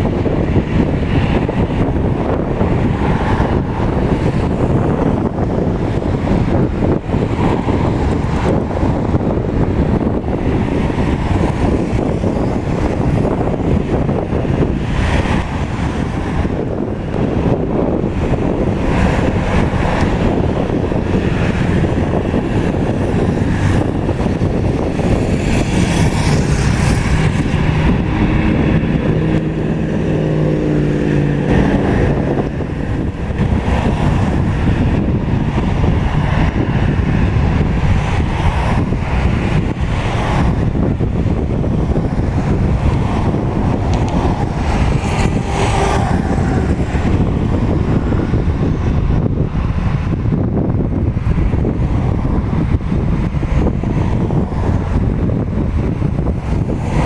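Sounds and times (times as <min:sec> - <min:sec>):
jet engines rumbling: 0:00.0 - 0:57.0
wind buffeting microphone: 0:00.0 - 0:57.0.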